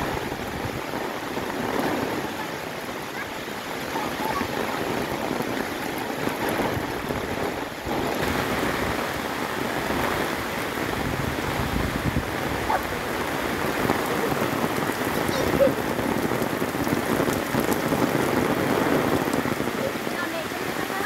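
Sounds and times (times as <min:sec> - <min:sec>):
heavy rain on trees and grass: 0:00.0 - 0:21.0.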